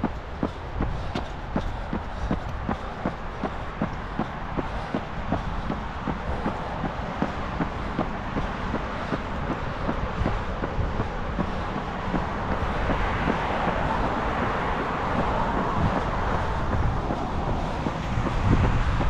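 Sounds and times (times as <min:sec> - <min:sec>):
road traffic hum: 0:00.0 - 0:19.0
vehicle passing: 0:00.0 - 0:19.0.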